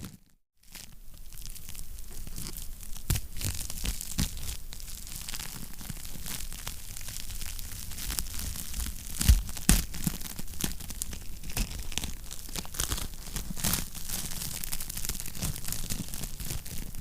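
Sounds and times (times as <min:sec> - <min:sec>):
wood fire crackling: 0:00.7 - 0:17.0.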